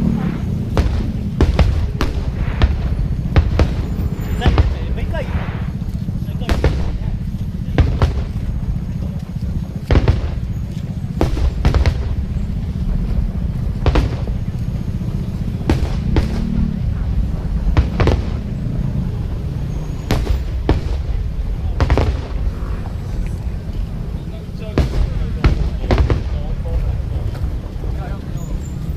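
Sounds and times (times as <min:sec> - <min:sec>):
deep rumble of fireworks barrage: 0:00.0 - 0:28.9
fireworks bangs: 0:00.0 - 0:28.9.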